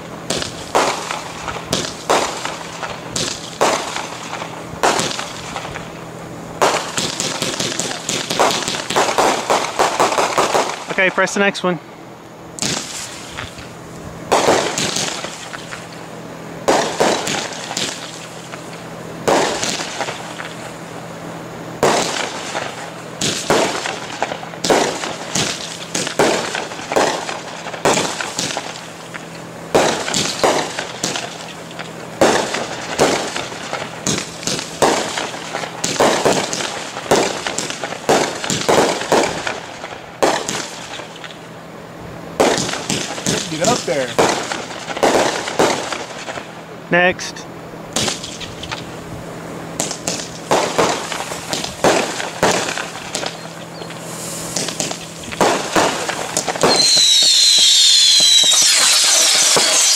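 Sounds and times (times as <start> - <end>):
fireworks launching and bursting: 0.0 - 11.7, 12.5 - 21.1, 21.7 - 41.5, 42.4 - 48.9, 49.8 - 59.9.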